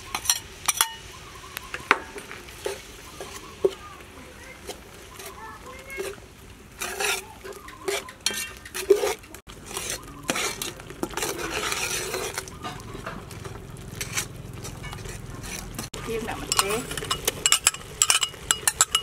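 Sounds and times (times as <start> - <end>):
metal ladle scraping a pot: 0.0 - 1.2, 1.8 - 19.0.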